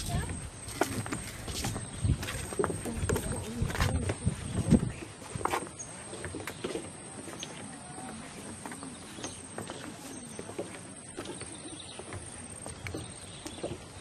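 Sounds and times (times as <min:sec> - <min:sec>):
footsteps on wooden planks: 0:00.0 - 0:14.0.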